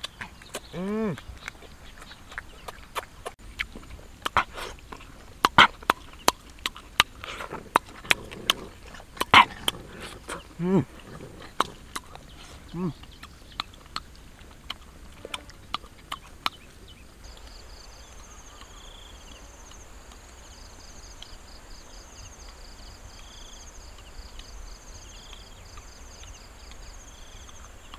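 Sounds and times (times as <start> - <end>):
insects chirping: 0.0 - 27.9.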